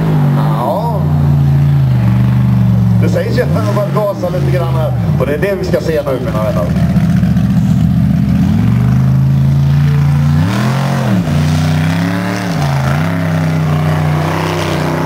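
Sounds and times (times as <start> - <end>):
buggy engine revving at full throttle: 0.0 - 15.0.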